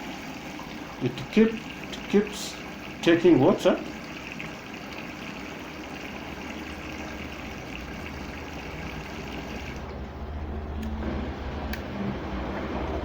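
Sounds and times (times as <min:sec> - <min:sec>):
low machine hum: 0:00.0 - 0:13.0
water running into washing machine: 0:00.0 - 0:13.0.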